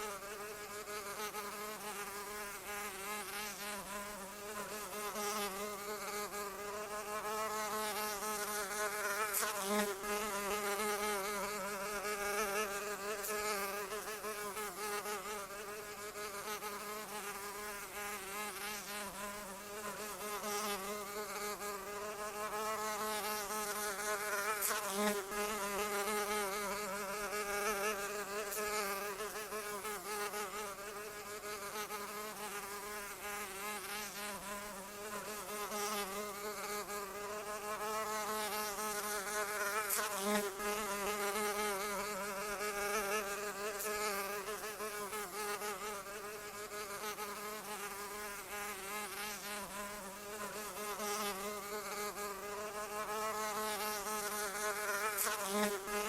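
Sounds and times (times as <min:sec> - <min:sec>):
flying insect buzzing: 0:00.0 - 0:56.0.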